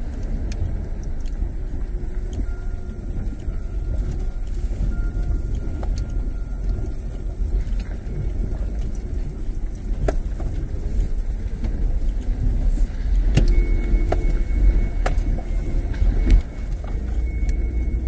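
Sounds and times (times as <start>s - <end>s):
suspension knocks and clicks: 0.0s - 18.0s
vehicle rumbling over dirt track: 0.0s - 18.0s.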